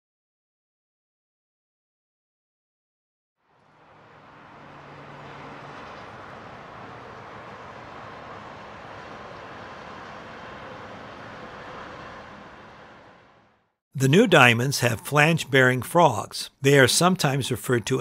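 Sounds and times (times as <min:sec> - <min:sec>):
distant traffic and machinery hiss: 0:03.4 - 0:18.0.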